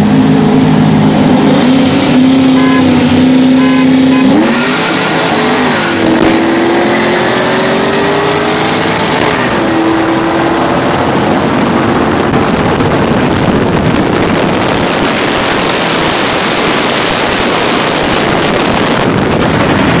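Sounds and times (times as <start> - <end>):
car engine noise: 0.0 - 20.0
wind and road noise: 0.0 - 20.0.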